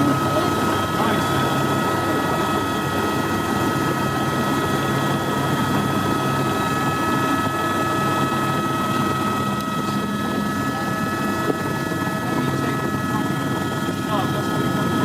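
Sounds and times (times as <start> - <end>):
helicopter engine and rotor: 0.0 - 15.0
high whine: 0.0 - 15.0.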